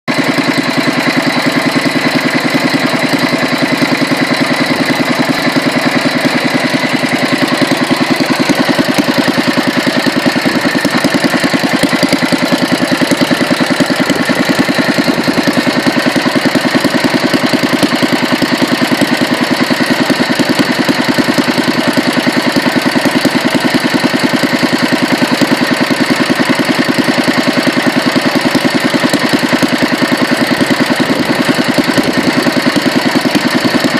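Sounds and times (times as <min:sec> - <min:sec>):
single-cylinder engine running: 0:00.1 - 0:33.9.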